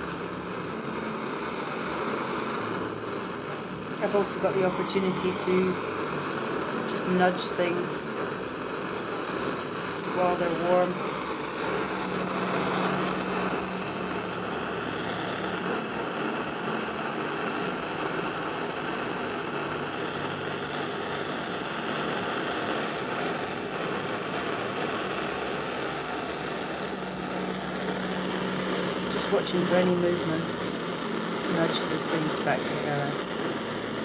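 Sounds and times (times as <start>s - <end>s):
electric fan running: 0.0s - 34.0s
gas torch flame burning: 0.0s - 34.0s.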